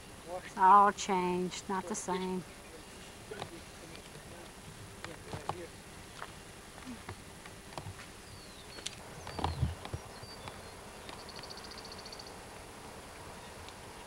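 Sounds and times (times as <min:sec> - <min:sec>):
tape hiss: 0:00.0 - 0:14.0.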